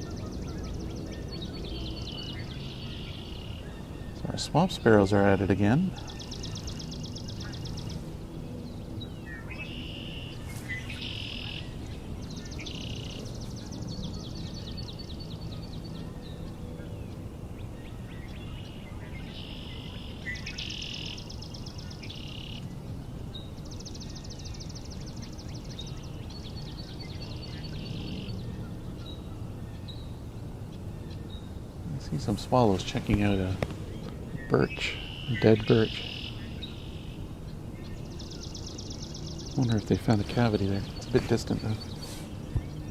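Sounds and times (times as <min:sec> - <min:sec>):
low background rumble: 0:00.0 - 0:42.9
sparrows singing trilled songs: 0:00.0 - 0:42.9.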